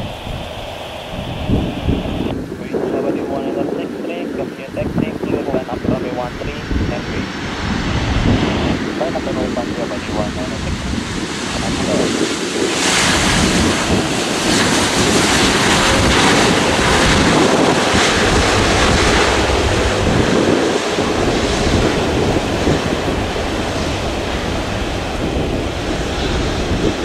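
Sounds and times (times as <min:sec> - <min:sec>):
jet engines rushing: 0:00.0 - 0:27.0
wind buffeting microphone: 0:00.0 - 0:27.0.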